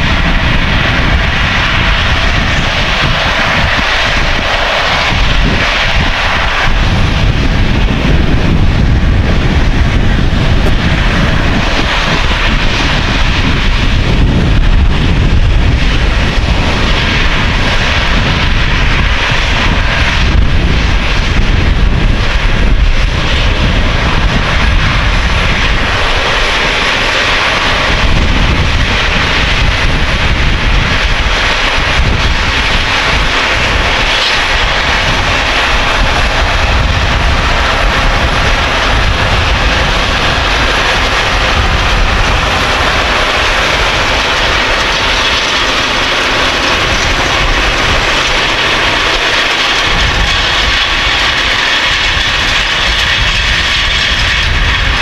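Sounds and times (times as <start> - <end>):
broad rushing noise: 0.0 - 55.0
tractor engine drone: 0.0 - 55.0.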